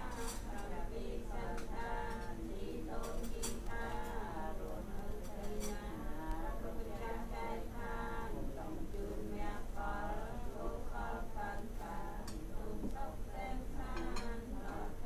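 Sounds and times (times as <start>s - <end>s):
voices chanting: 0.0s - 15.0s.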